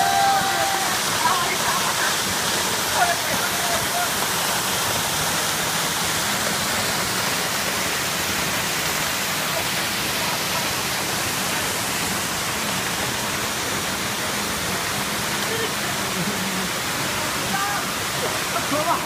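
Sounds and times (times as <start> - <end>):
waterfall splashing onto rocks: 0.0 - 19.0.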